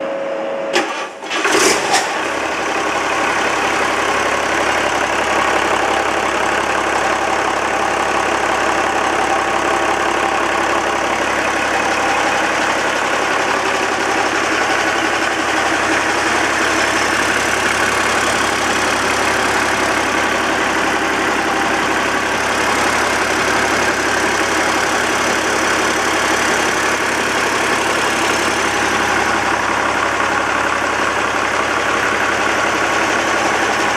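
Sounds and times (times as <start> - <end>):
diesel engine starting and idling: 0.7 - 33.9.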